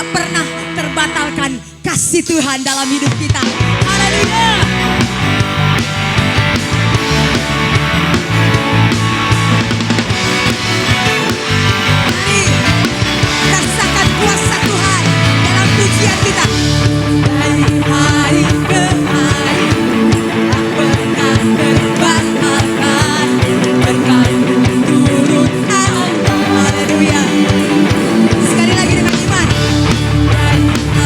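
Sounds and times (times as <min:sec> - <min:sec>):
electric guitar: 0:00.0 - 0:31.0
worship band music: 0:00.0 - 0:31.0.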